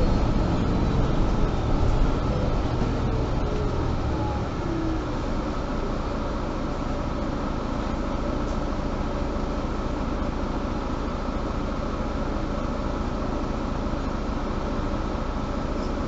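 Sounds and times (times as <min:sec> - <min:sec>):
bus engine running hum: 0:00.0 - 0:16.0.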